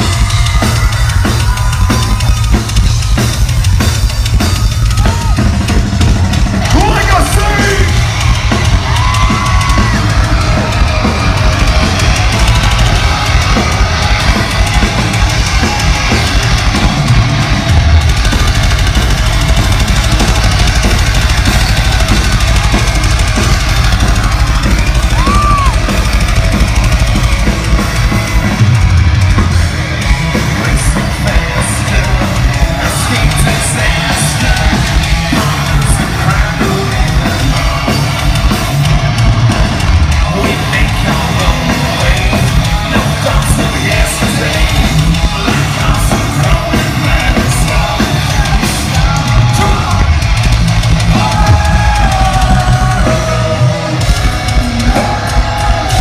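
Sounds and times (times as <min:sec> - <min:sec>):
distorted electric guitars: 0:00.0 - 0:56.0
drum kit: 0:00.0 - 0:56.0
shouted and sung vocals: 0:06.5 - 0:28.6, 0:29.3 - 0:56.0.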